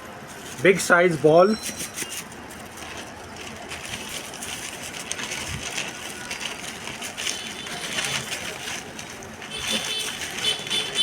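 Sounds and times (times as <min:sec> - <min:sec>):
packaging being unwrapped: 0:01.8 - 0:11.0.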